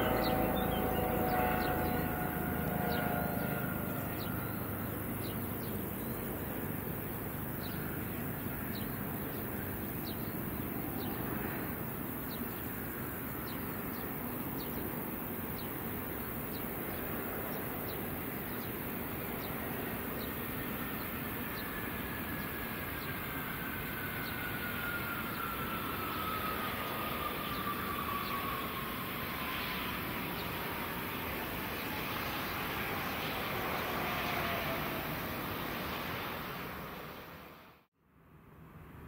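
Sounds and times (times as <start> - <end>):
jet engines rumbling: 0.0 - 37.9
high jet engine whine: 0.0 - 39.0.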